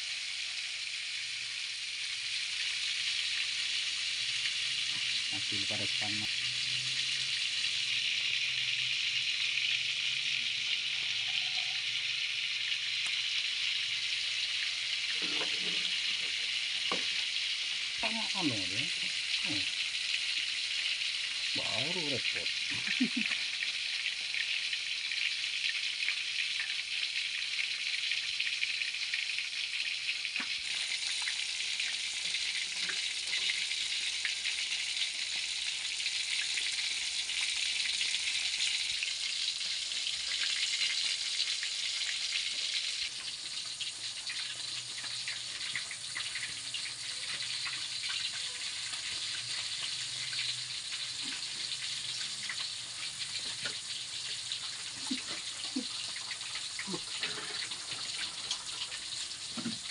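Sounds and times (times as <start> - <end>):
fish sizzling in oil: 0.0 - 59.9.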